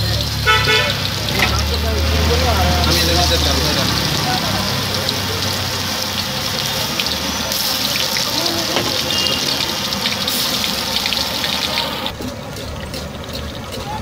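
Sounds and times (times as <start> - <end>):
hot oil sizzling with pops: 0.0 - 14.0.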